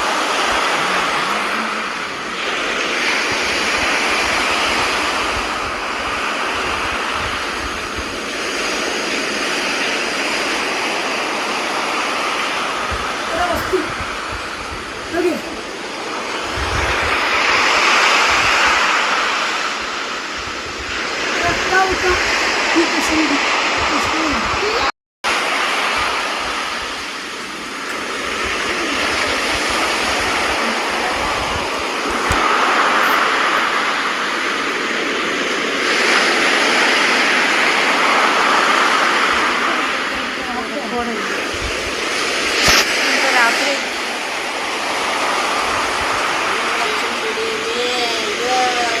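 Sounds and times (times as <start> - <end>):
sea waves washing on shore: 0.0 - 49.0.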